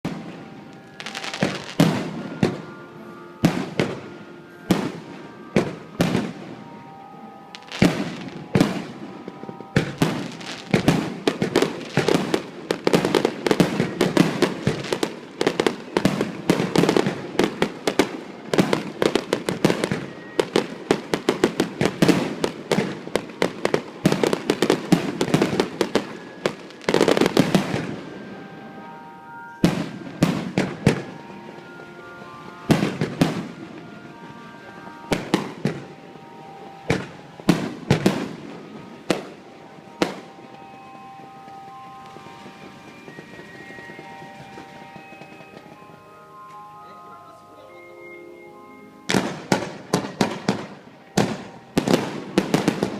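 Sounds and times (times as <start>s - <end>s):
fireworks bangs and crackling: 0.0s - 2.8s, 3.4s - 6.9s, 7.5s - 47.0s, 49.1s - 52.9s
music playing: 0.0s - 52.9s.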